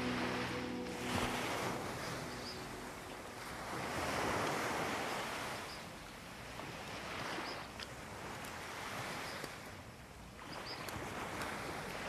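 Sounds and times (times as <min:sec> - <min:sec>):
ocean waves washing ashore: 0:00.0 - 0:12.0.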